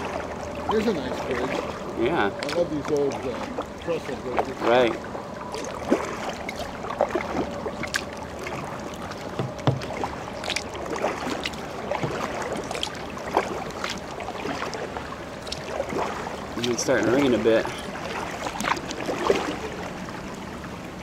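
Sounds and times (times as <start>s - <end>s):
light rain on water: 0.0s - 21.0s
paddle splashes and drips: 0.0s - 21.0s.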